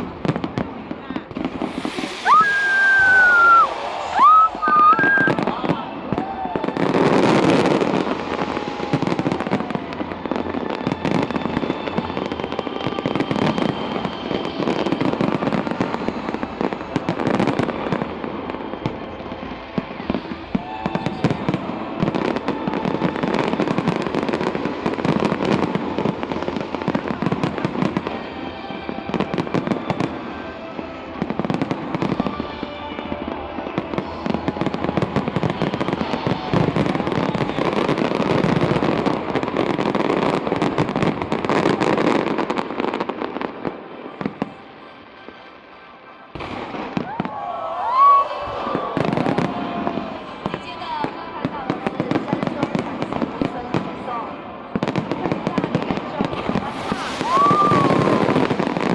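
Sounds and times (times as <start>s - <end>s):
fireworks booming and crackling: 0.0s - 58.9s
music playing: 1.4s - 51.3s.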